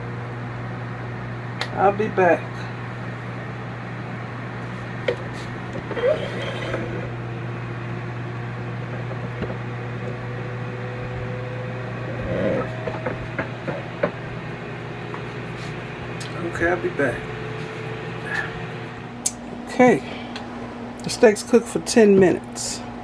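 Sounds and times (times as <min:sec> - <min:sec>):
kitchen fan whirring: 0:00.0 - 0:23.0.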